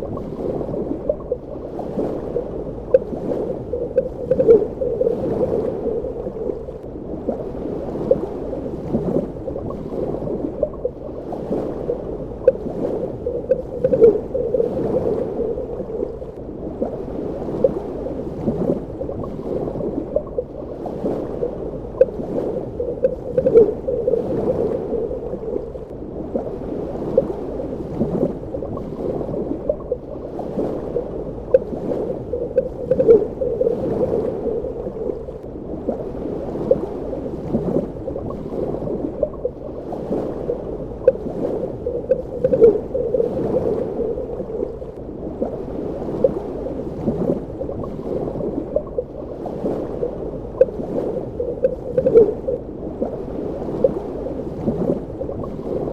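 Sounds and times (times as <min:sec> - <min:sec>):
muffled underwater water wash: 0:00.0 - 0:55.9
water gurgling and bubbling: 0:00.0 - 0:55.9.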